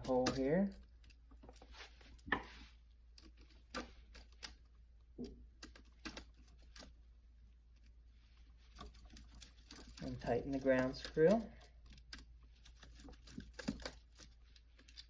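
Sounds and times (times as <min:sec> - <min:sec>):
faint clicks and taps handling wires: 0:00.0 - 0:15.0.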